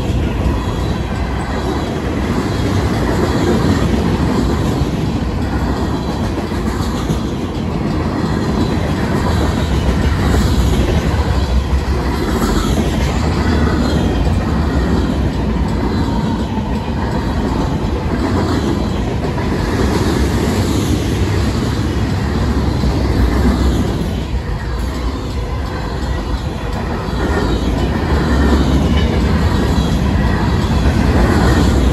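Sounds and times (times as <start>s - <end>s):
freight train rolling past: 0.0s - 31.9s
railroad crossing bells ringing: 0.0s - 31.9s.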